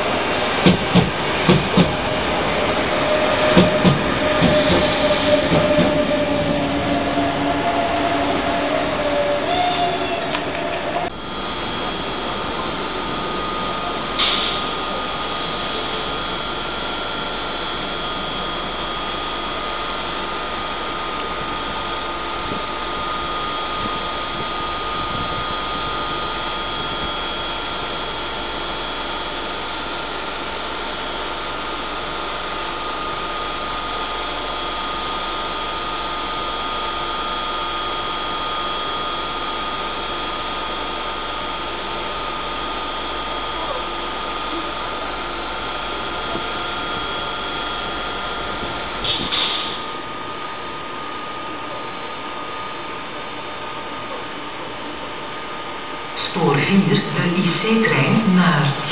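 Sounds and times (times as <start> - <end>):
locomotive cooling fans humming: 0.0 - 58.9.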